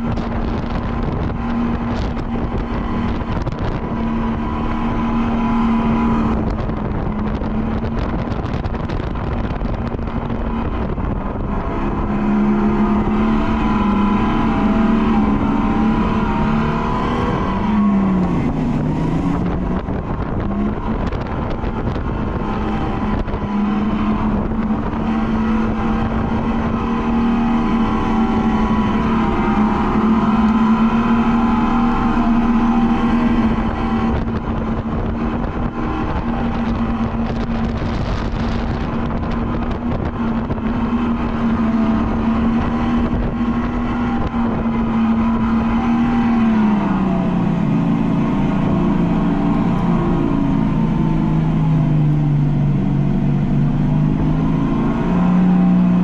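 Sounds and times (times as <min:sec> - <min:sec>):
constant rushing noise: 0:00.0 - 0:56.0.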